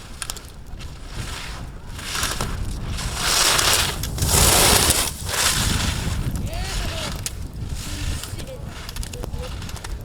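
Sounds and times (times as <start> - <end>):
skis scraping on snow: 0.0 - 10.0.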